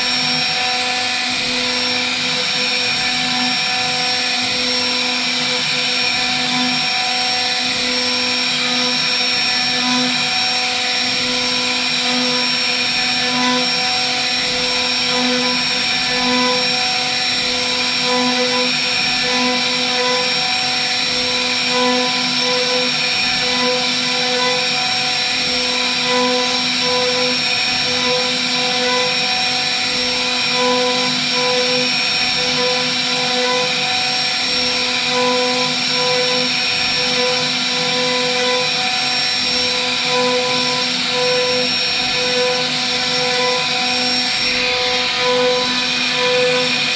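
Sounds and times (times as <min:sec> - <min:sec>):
router spindle milling wood: 0:00.0 - 0:46.9.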